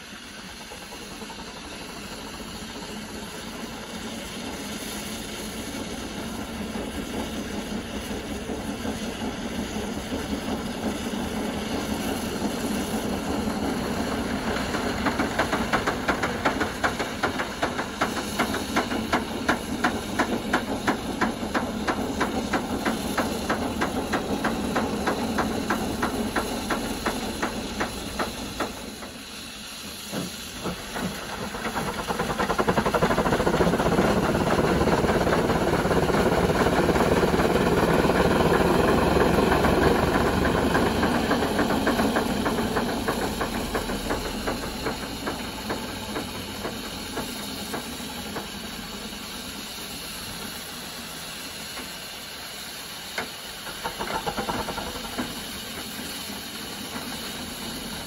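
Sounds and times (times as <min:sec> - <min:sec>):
snow blower rushing hiss: 0:00.0 - 0:58.0
steam engine exhaust beats: 0:00.0 - 0:58.0.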